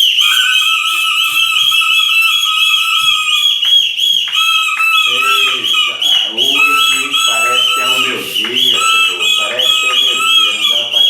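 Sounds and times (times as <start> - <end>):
pea whistle shrill warbling: 0.0 - 11.0.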